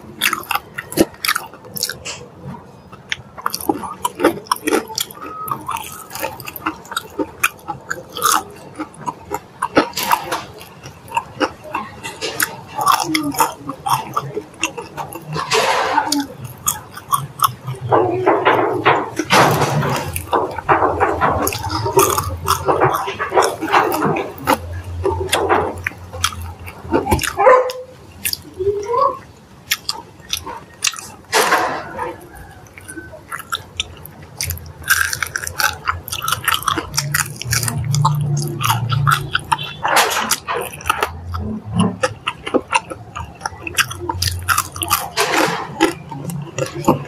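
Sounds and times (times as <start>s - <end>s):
crunchy chewing and biting: 0.0s - 47.0s.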